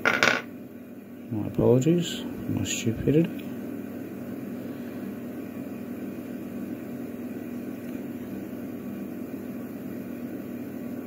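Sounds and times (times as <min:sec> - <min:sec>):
steady low hum with hiss: 0:00.0 - 0:11.0.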